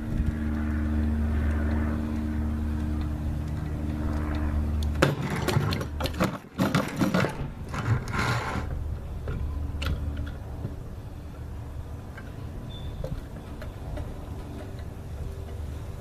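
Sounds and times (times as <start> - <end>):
low hum: 0.0 - 16.0
mechanical clicking and rattling: 0.0 - 16.0.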